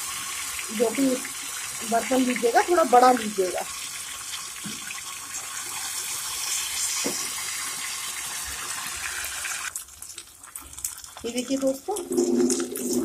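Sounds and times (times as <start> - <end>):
batter deep-frying in hot fat: 0.0 - 13.0.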